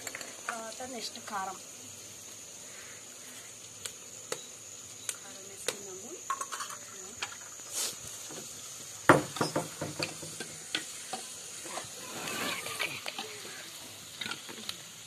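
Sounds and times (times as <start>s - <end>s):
light sizzle: 0.0s - 15.0s.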